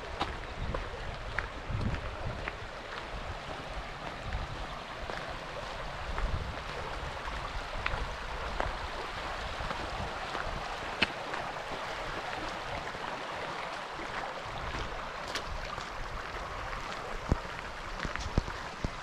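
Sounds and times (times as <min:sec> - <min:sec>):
stream babbling over rocks: 0:00.0 - 0:19.0
wind rumble on microphone: 0:00.0 - 0:19.0.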